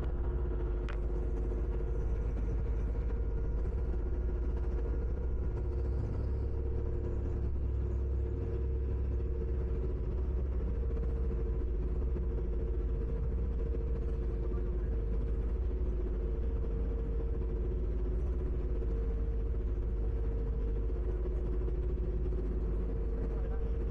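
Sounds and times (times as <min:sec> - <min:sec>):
droning hum: 0:00.0 - 0:23.9.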